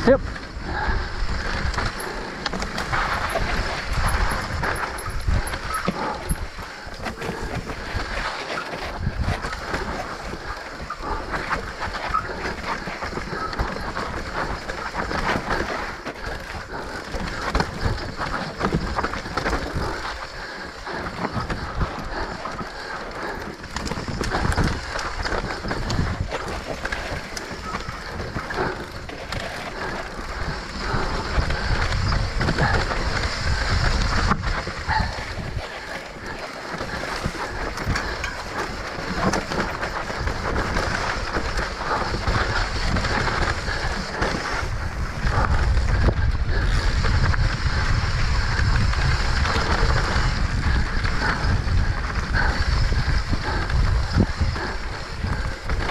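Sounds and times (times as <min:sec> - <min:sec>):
bike rattling: 0:00.0 - 0:55.9
bike tyres rolling on dirt: 0:00.0 - 0:55.9.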